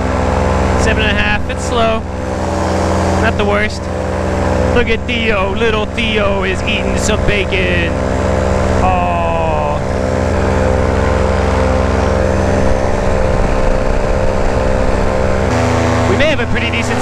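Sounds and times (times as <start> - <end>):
paramotor engine droning: 0.0 - 17.0.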